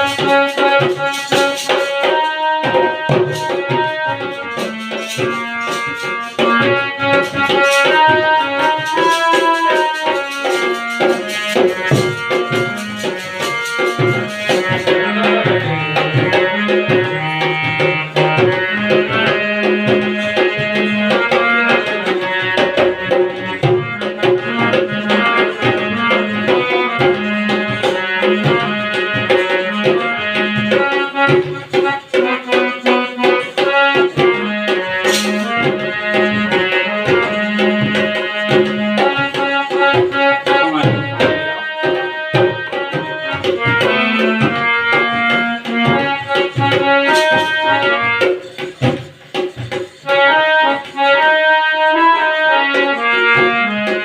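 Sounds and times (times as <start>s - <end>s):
dholak drum rhythm: 0.0s - 54.0s
harmonium melody: 0.0s - 54.0s.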